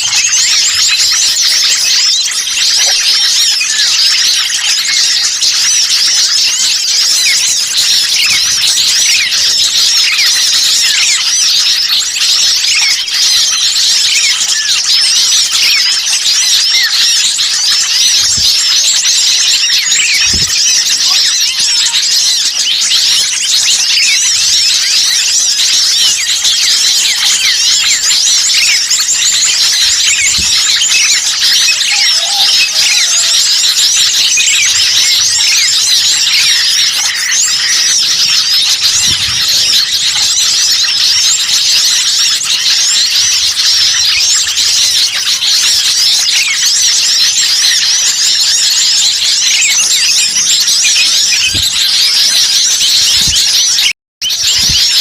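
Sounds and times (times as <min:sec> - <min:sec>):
songbirds chirping and calling: 0:00.0 - 0:55.0.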